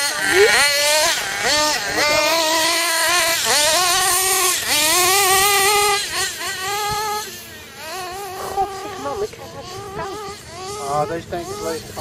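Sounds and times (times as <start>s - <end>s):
rc car engine revving: 0.0s - 12.0s.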